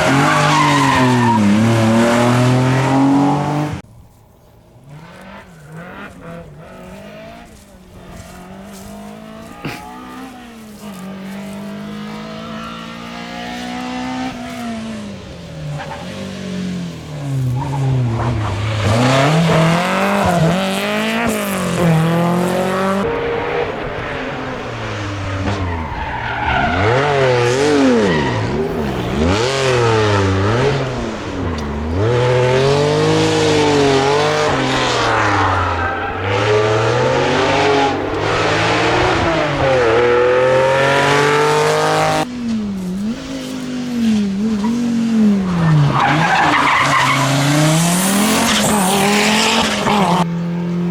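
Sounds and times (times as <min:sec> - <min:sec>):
rally car engine revving: 0:00.0 - 0:03.9, 0:04.8 - 0:50.9.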